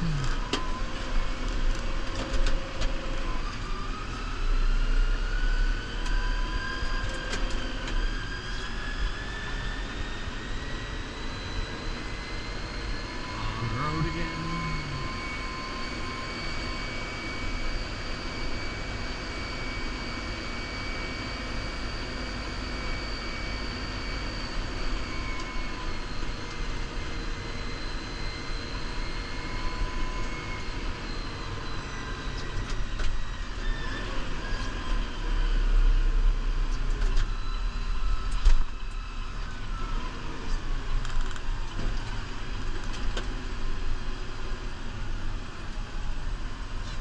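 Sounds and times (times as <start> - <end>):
high steady whine: 0.0 - 47.0.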